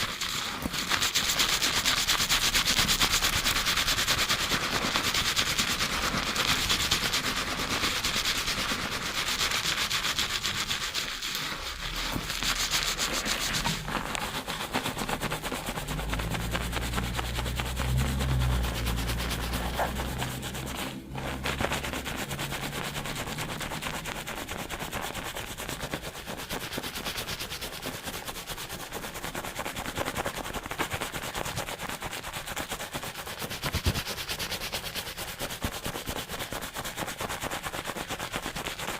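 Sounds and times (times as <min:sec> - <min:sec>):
fingers scrubbing lathered hair: 0:00.0 - 0:38.9.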